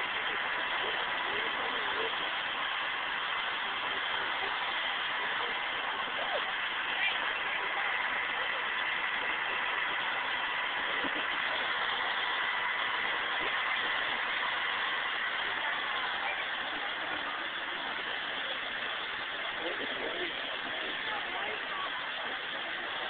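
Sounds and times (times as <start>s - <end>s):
faint high whine: 0.0s - 23.0s
helicopter idling: 0.0s - 23.0s.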